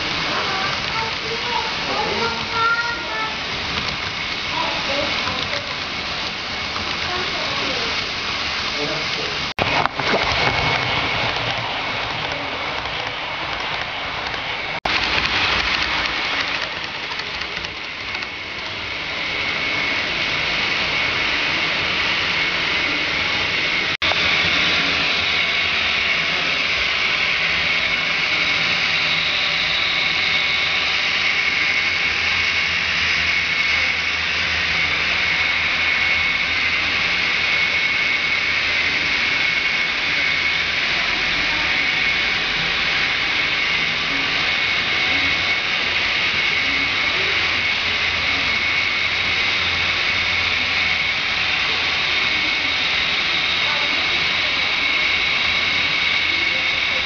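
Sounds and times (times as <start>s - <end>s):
model trains whirring on rails: 0.0s - 57.0s.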